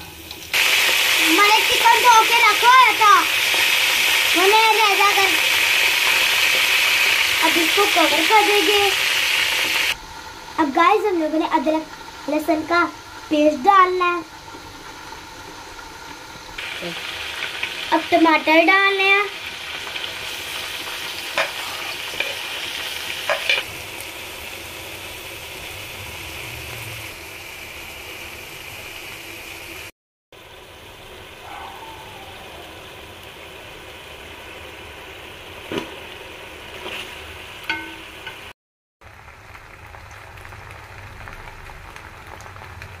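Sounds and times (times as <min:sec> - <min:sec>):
food sizzling in a pot: 0:00.0 - 0:43.0.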